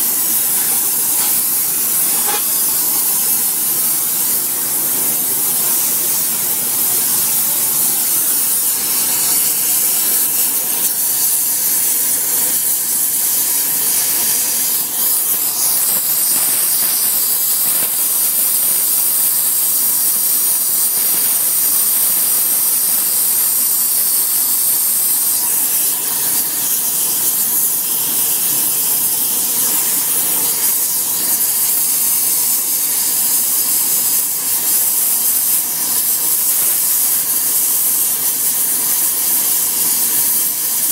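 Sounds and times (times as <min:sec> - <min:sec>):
gas torch flame hissing: 0:00.0 - 0:40.9.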